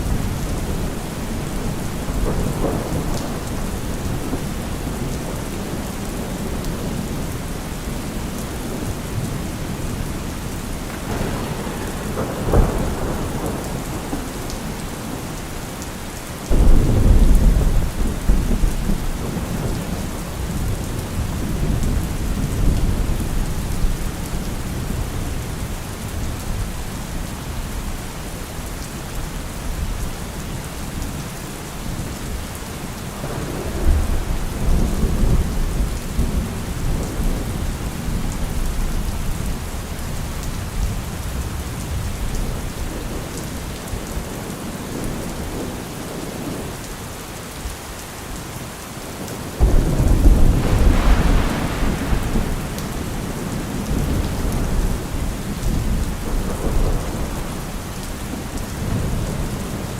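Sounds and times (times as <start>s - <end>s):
thunder rumbling and cracking: 0.0s - 28.0s, 33.0s - 46.7s, 49.2s - 59.9s
steady rain: 0.0s - 59.9s.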